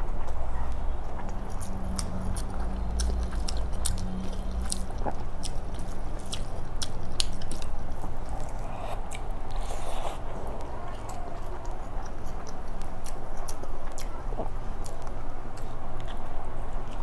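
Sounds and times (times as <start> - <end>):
low steady hum: 0.0 - 17.0
chewing with wet mouth clicks: 0.1 - 17.0.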